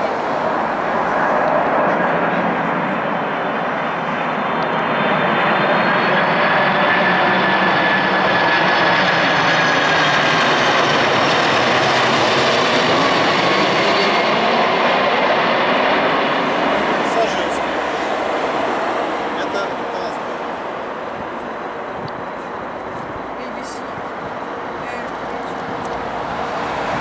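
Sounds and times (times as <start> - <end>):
jet engines passing overhead: 0.0 - 27.0.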